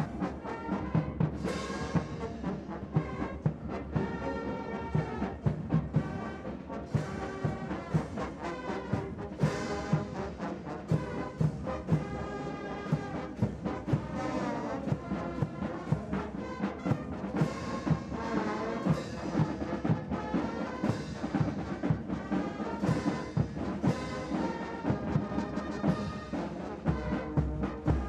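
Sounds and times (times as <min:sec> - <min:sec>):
brass band playing a march: 0:00.0 - 0:28.0.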